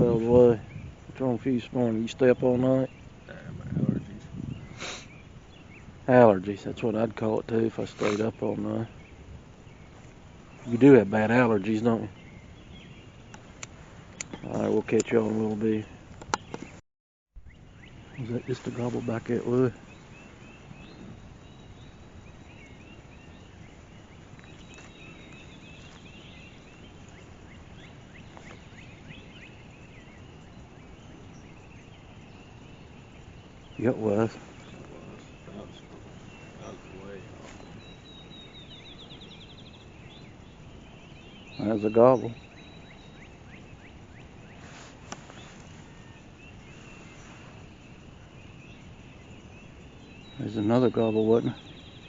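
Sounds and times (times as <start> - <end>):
songbirds chirping: 0.0 - 16.8, 17.4 - 52.0
steady low hiss: 0.0 - 16.8, 17.4 - 52.0.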